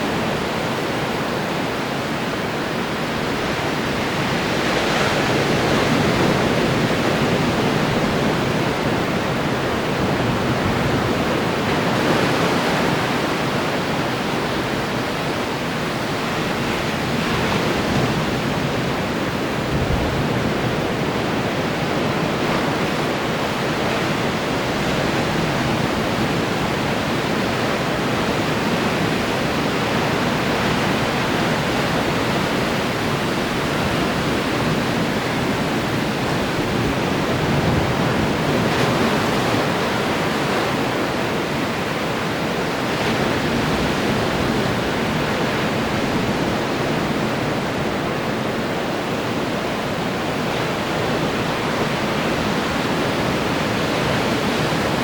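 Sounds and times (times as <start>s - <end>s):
ocean surf breaking on shore: 0.0s - 55.0s.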